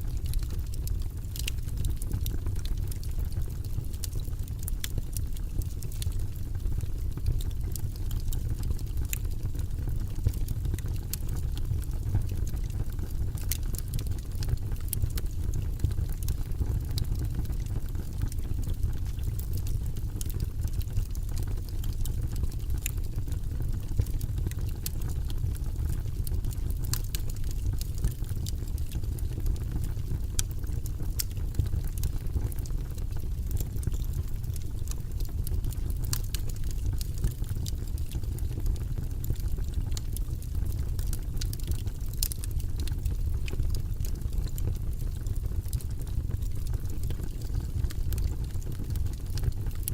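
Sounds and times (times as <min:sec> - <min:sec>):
fire crackling and popping: 0:00.0 - 0:49.9
fire rumbling: 0:00.0 - 0:49.9.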